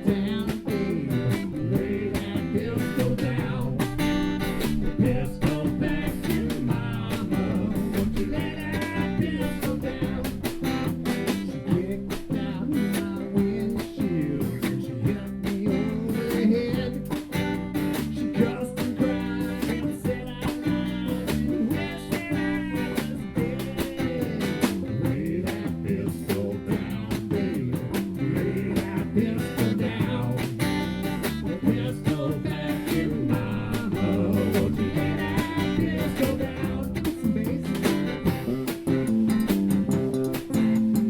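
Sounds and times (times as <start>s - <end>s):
person singing: 0.0s - 39.2s
live country band playing: 0.0s - 41.0s.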